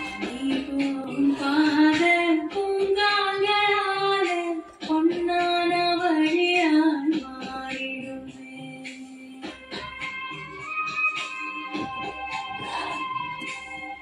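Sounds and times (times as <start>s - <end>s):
high singing voice over music: 0.0s - 14.0s.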